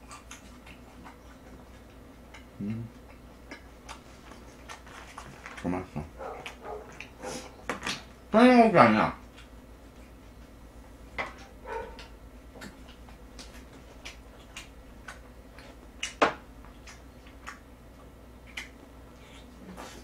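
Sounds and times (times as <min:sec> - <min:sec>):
chewing mouth sounds: 0:00.0 - 0:08.0, 0:11.4 - 0:20.0.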